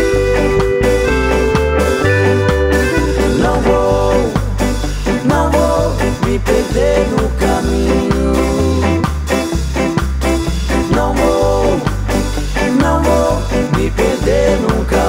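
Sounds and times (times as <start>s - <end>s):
muted electric bass line: 0.0s - 15.0s
ska band instruments: 0.0s - 15.0s.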